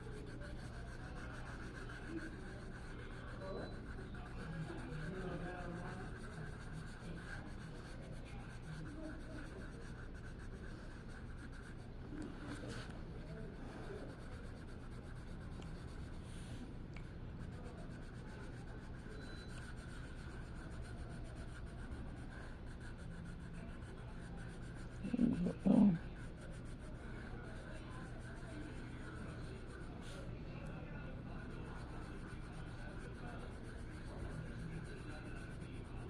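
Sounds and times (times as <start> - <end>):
pencil scratching on paper: 0.0 - 36.0.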